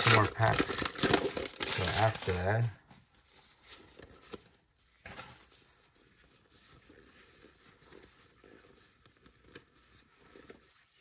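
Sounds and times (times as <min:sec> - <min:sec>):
trading cards rustling: 0:00.0 - 0:11.0.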